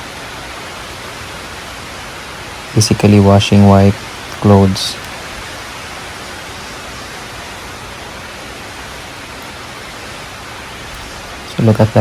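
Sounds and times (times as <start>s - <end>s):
heavy rain pouring: 0.0s - 12.0s
raindrops hitting a roof: 0.0s - 12.0s.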